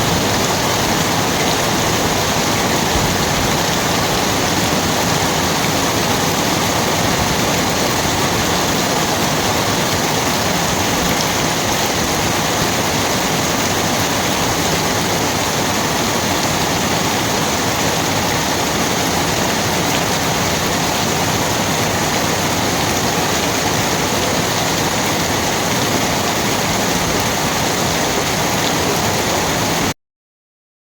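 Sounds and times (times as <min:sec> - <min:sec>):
rain falling steadily: 0:00.0 - 0:30.0.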